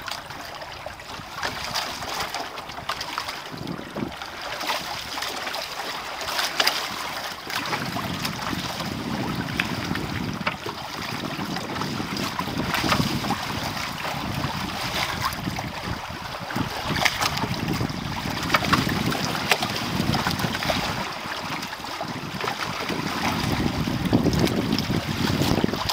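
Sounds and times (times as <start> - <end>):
water splashing along boat hulls: 0.0 - 25.9
wind buffeting microphone: 0.3 - 5.2, 7.5 - 25.9.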